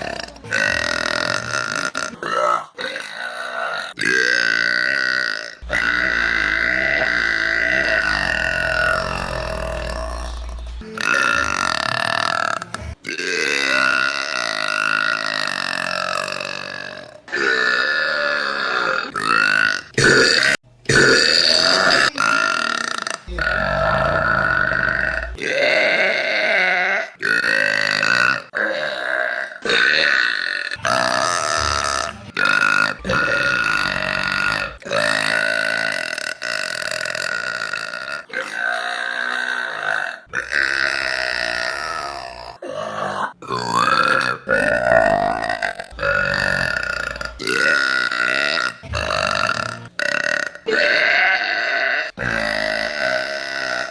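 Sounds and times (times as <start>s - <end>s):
woman burping loudly: 0.0s - 53.9s.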